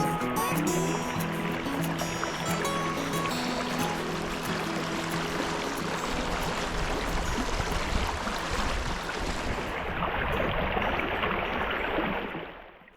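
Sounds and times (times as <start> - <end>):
creek water rushing: 0.0 - 12.8.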